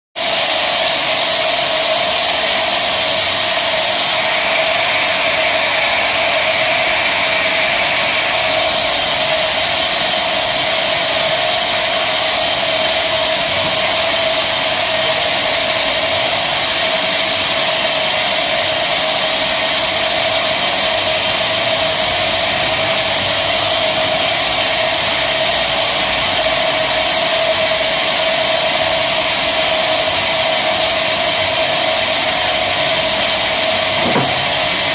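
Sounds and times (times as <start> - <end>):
sawmill machinery whirring: 0.2 - 34.9.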